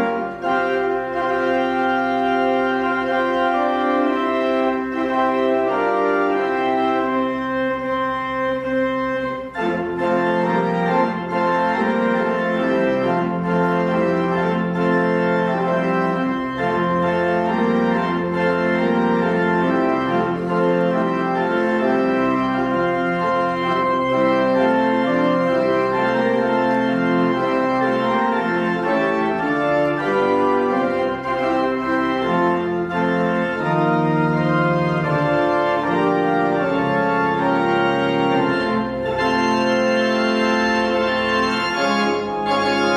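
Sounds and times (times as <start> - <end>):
organ playing sustained chords: 0.0 - 42.9.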